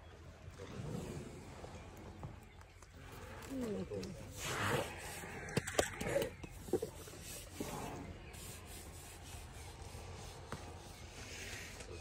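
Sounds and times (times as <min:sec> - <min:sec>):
elephants rubbing and rustling: 0:00.6 - 0:12.0.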